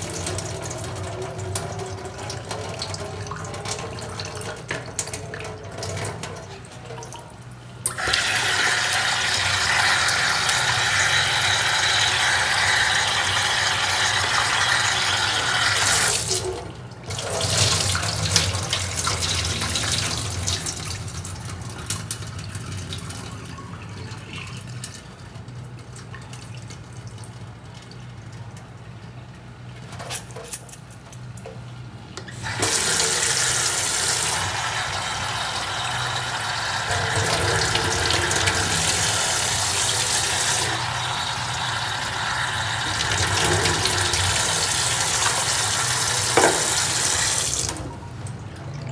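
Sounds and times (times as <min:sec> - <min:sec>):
tap water running into sink: 0:00.0 - 0:28.4, 0:32.2 - 0:48.9.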